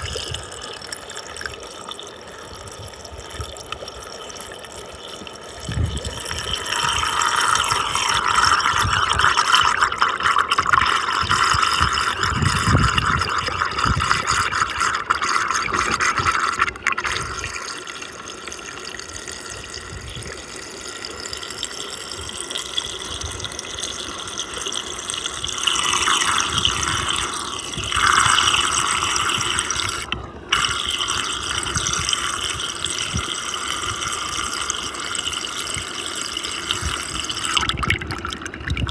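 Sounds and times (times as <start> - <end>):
water swirling and gurgling: 0.0 - 38.9.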